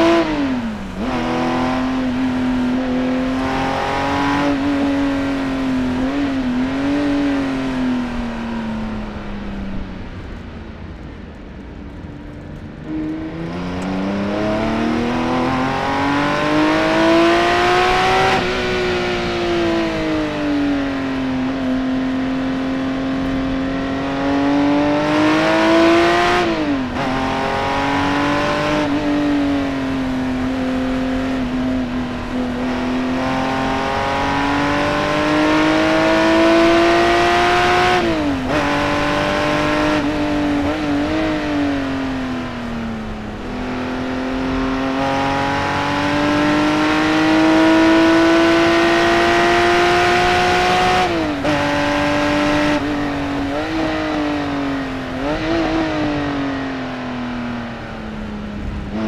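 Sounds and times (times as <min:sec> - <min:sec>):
sports car engine revving: 0:00.0 - 0:09.4, 0:12.4 - 0:57.1.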